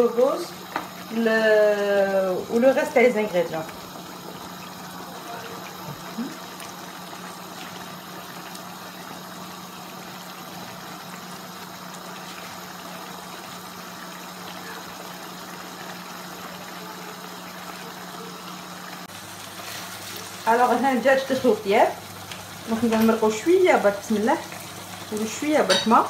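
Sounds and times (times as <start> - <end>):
sauce bubbling in a pan: 0.0 - 26.0.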